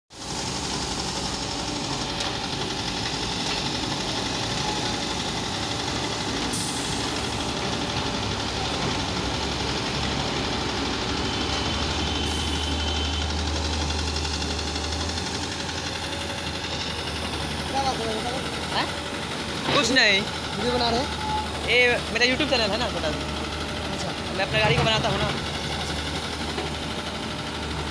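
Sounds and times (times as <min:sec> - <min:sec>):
diesel engines idling with clatter: 0:00.1 - 0:27.9.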